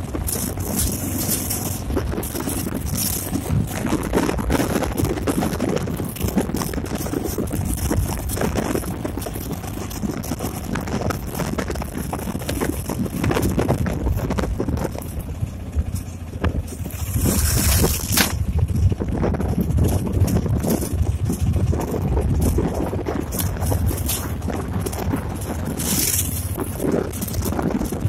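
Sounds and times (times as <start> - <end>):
road vehicle rumble: 0.0 - 28.0
wind buffeting microphone: 0.0 - 28.0.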